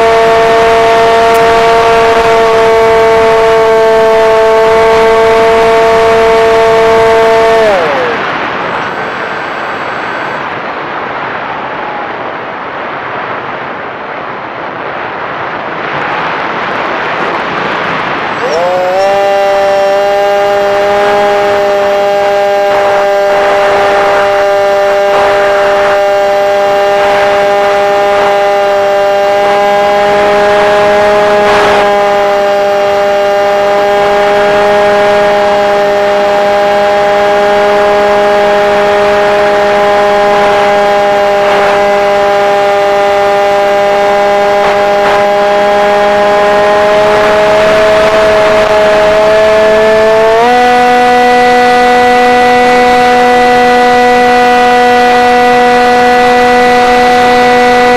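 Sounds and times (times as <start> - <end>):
model airplane motor whine: 0.0 - 10.7, 18.4 - 57.9.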